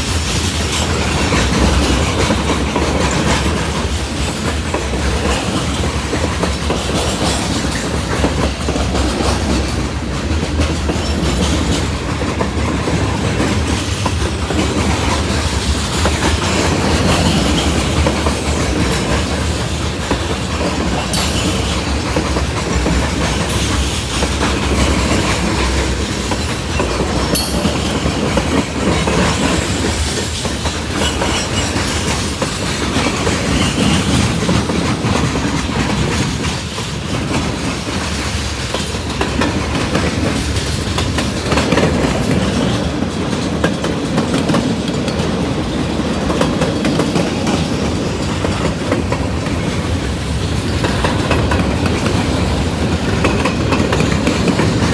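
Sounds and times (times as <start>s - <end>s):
train wheels clacking: 0.0s - 54.9s.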